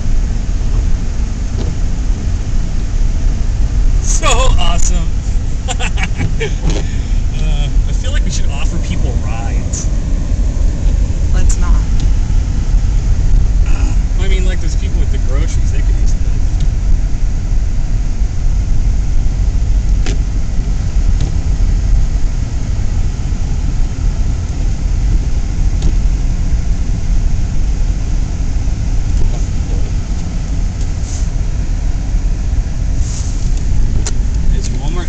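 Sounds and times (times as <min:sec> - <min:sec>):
car interior rumble: 0:00.0 - 0:35.0.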